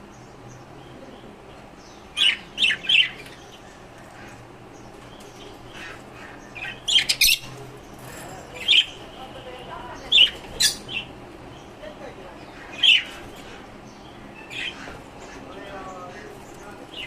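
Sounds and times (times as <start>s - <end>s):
cage birds sharp calls: 0.0s - 17.0s.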